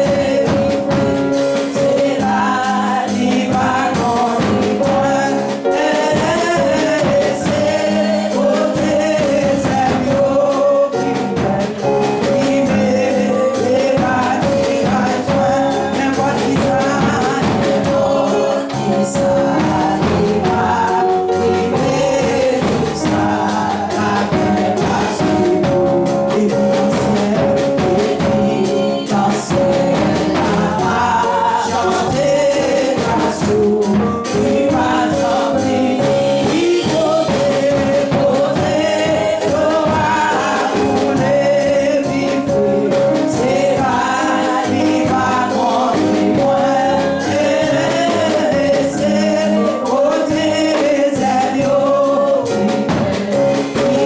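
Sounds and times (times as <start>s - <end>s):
group singing gospel music: 0.0s - 54.0s
instrumental accompaniment with beat: 0.0s - 54.0s.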